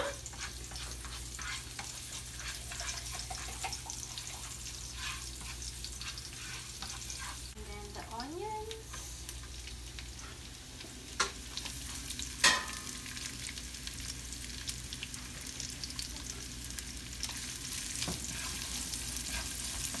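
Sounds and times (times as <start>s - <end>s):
garlic and onions sizzling in oil: 0.0s - 20.0s.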